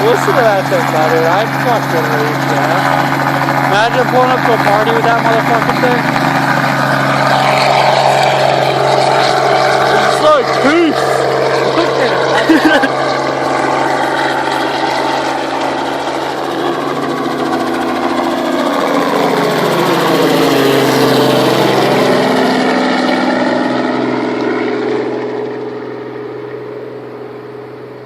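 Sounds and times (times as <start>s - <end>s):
helicopter engine and rotors: 0.0s - 28.0s.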